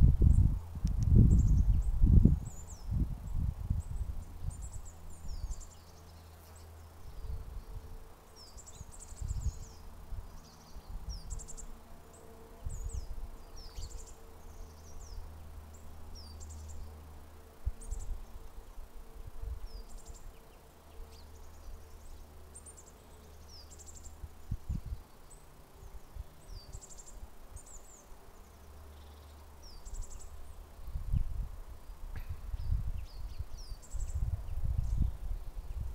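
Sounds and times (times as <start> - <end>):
faint low hum: 0.0 - 35.9
birds chirping and singing: 1.2 - 35.9.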